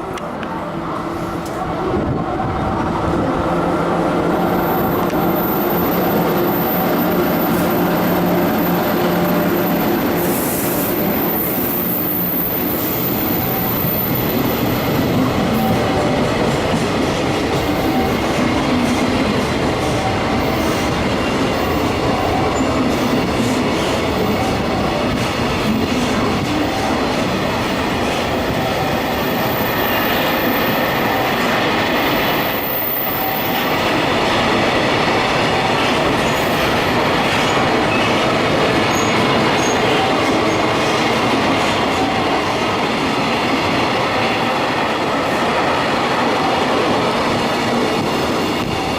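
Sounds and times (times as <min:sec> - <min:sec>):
freight train wheels rumbling on rail: 0:00.0 - 0:48.9.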